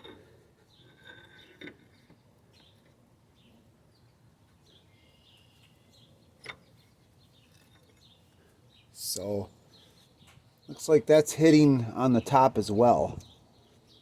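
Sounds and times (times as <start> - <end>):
faint bird chirping: 0.0 - 11.0, 13.2 - 14.0.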